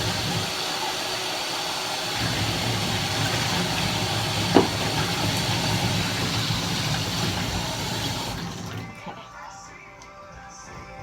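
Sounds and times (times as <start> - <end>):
running water hissing from tap: 0.0 - 9.2.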